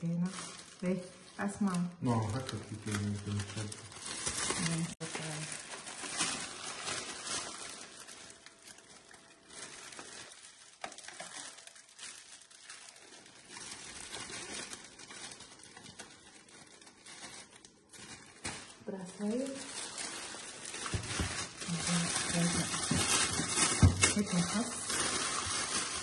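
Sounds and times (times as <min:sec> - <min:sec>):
cellophane crinkling: 0:00.0 - 0:26.0.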